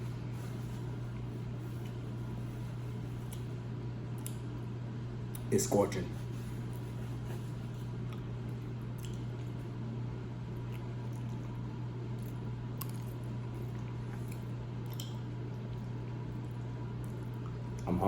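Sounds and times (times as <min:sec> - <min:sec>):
steady low hum: 0:00.0 - 0:18.0
person chewing spaghetti: 0:00.2 - 0:04.5, 0:06.6 - 0:09.7, 0:10.4 - 0:17.9.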